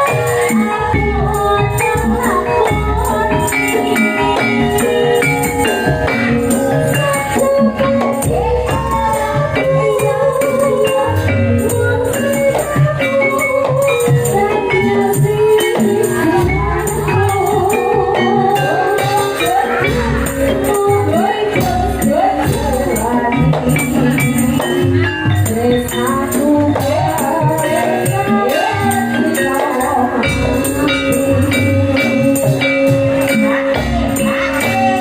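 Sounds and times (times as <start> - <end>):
steady drum beat: 0.0 - 35.0
upbeat live band music: 0.0 - 35.0.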